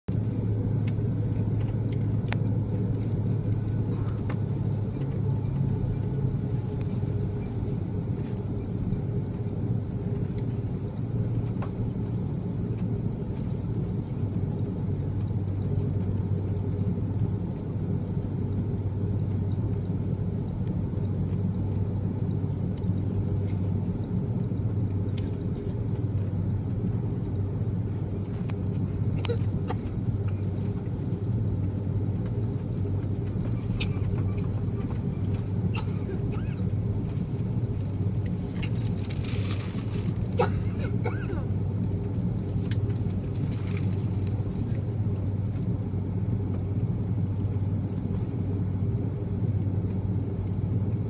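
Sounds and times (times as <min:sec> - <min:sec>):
jet engines at low power: 0:00.1 - 0:51.0.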